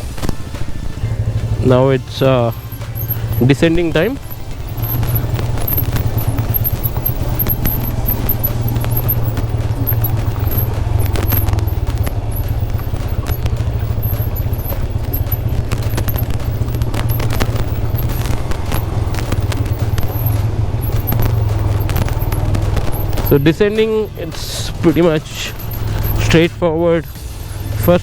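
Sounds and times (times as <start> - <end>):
motorcycle engine rumbling: 0.0 - 28.0
rapid rattling clicks: 0.0 - 28.0.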